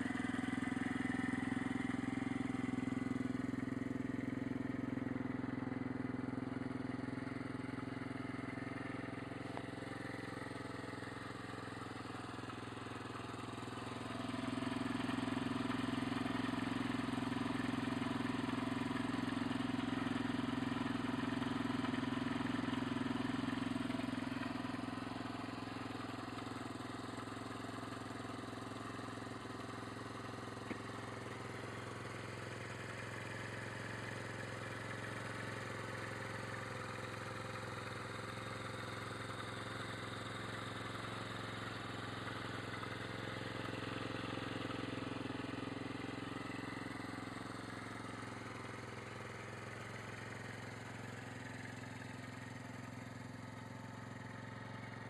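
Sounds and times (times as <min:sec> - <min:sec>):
motorbike engine idling: 0:00.0 - 0:55.0.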